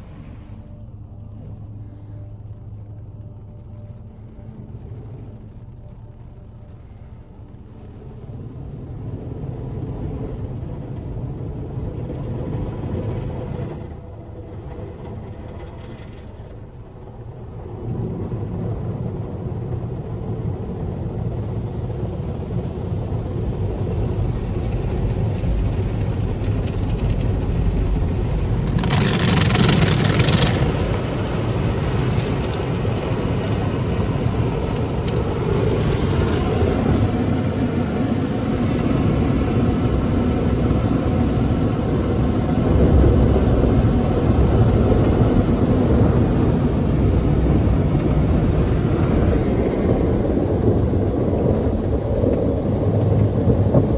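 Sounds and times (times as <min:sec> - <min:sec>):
car wash brushes and water rumbling: 0:00.0 - 0:53.9.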